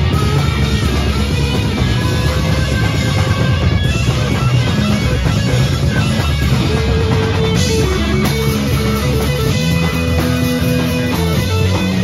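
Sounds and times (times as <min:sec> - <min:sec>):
distorted electric guitars: 0:00.0 - 0:12.0
drum kit: 0:00.0 - 0:12.0.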